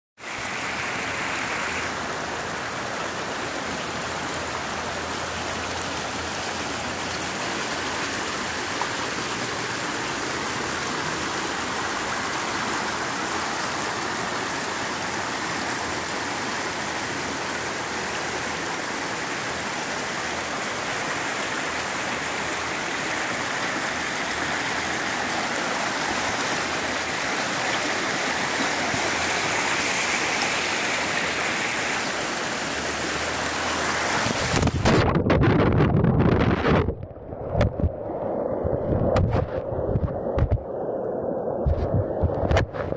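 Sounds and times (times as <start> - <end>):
river rushing over rocks: 0.2 - 38.3.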